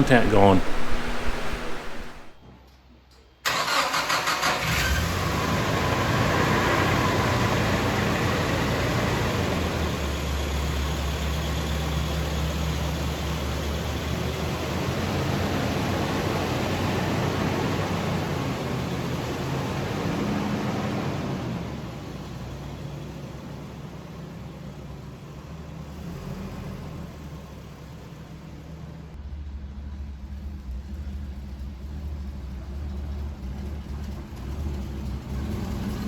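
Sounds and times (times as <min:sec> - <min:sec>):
car engine starting and idling: 0:03.4 - 0:36.0.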